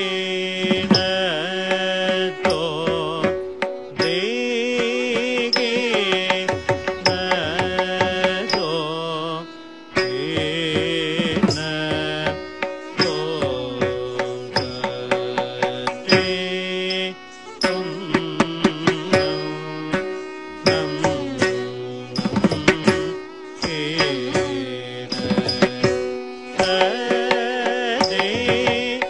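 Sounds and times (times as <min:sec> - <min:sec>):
hand drum strokes: 0:00.4 - 0:09.4, 0:10.0 - 0:29.0.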